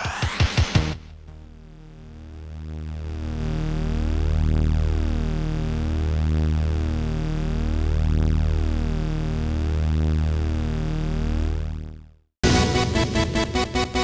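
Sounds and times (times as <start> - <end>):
low synthesizer drone: 1.1 - 14.0.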